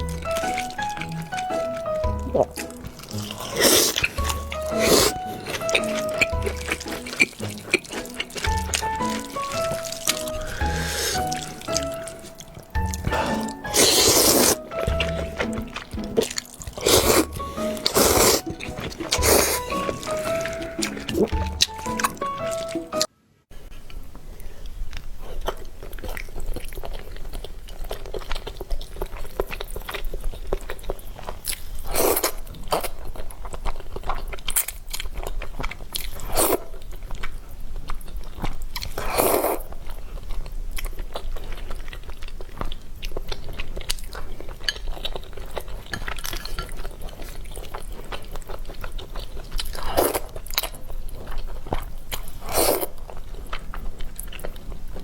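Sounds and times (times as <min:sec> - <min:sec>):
person chewing noodles: 0:00.0 - 0:23.1, 0:24.5 - 0:55.0.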